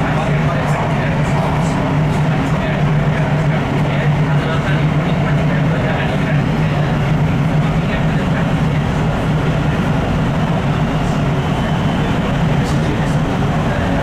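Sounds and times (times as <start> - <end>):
train wheels on rail: 0.0 - 14.0.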